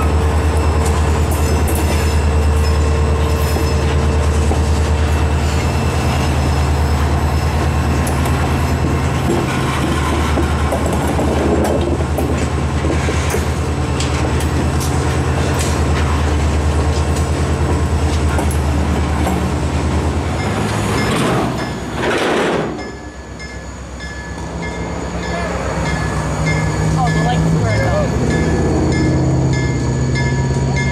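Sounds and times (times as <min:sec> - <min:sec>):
freight train rumbling past: 0:00.0 - 0:30.9.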